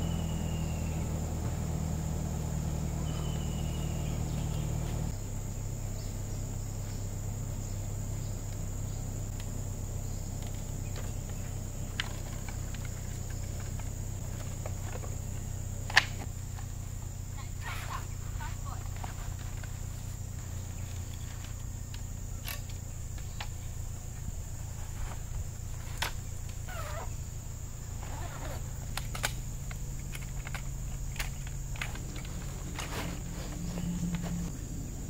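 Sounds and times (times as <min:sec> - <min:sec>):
insect chirring: 0:00.0 - 0:35.0
low hum: 0:00.0 - 0:35.0.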